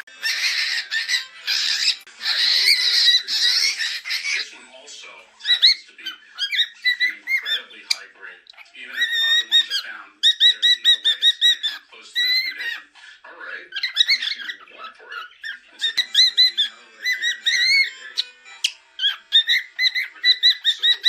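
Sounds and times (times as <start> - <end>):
cockatiel chirping and whistling: 0.1 - 4.5, 5.4 - 8.0, 8.6 - 12.8, 13.7 - 21.0.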